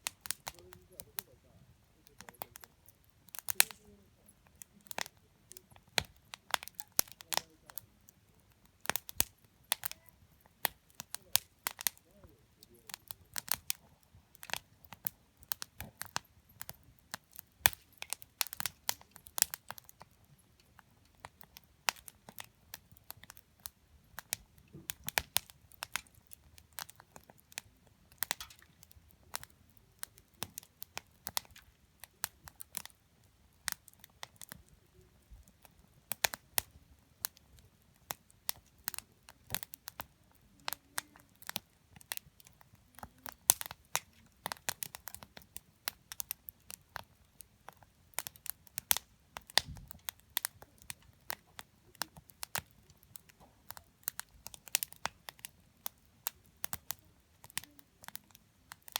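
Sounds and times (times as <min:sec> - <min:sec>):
campfire crackling: 0:00.0 - 0:58.9
fire pops and snaps: 0:00.0 - 0:58.9.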